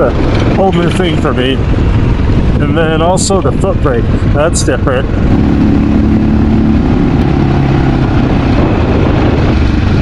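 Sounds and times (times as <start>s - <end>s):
motorcycle engine running: 0.0s - 10.0s
wind buffeting microphone: 0.0s - 10.0s.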